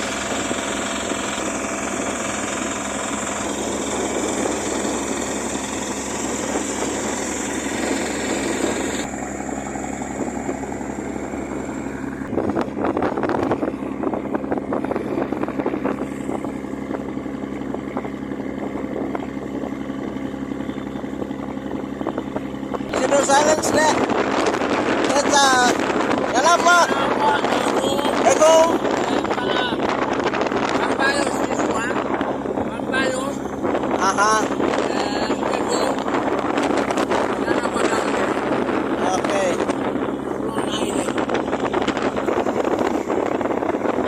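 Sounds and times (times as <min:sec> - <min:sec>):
boat engine humming: 0:00.0 - 0:44.0
rushing wind: 0:00.0 - 0:44.0
water noise: 0:00.0 - 0:44.0.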